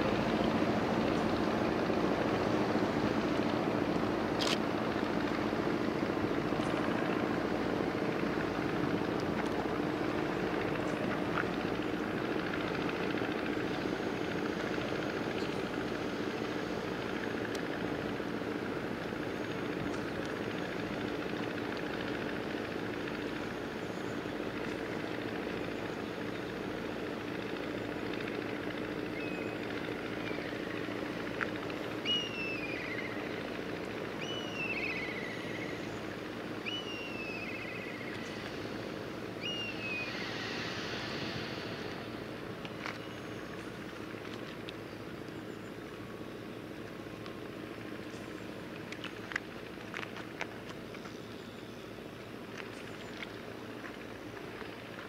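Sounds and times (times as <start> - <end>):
ship engines humming: 0.0 - 55.0.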